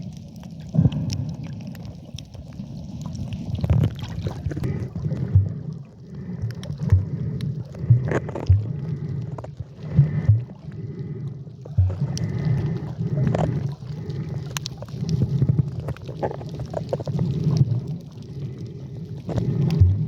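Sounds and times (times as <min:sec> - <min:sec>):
water sloshing and gurgling: 0:00.0 - 0:20.0.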